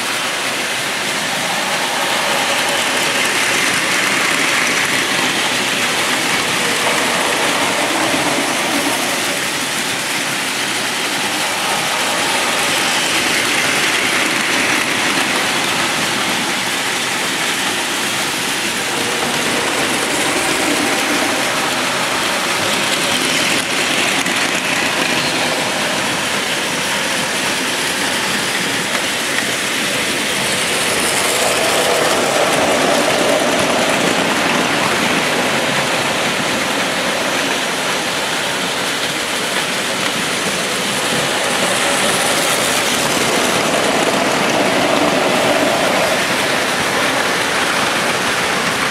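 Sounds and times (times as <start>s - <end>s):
toy trains whirring on plastic track: 0.0s - 48.9s.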